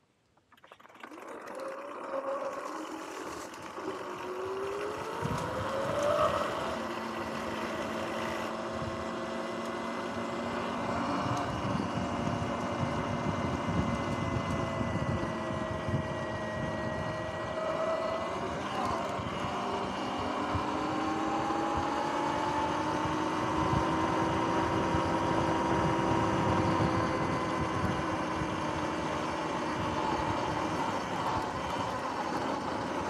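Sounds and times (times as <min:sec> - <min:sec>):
electric motor whine: 0:01.7 - 0:33.0.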